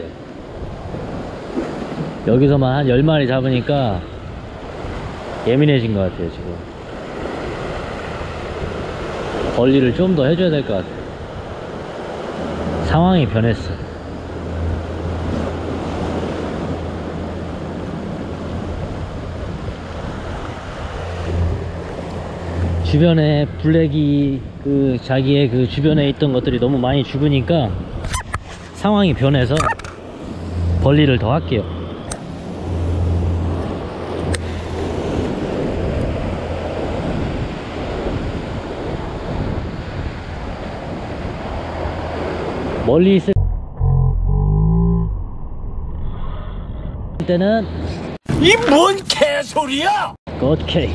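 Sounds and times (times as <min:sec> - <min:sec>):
ocean surf washing around rocks: 0:00.0 - 0:43.4
wind on the microphone: 0:00.0 - 0:43.7.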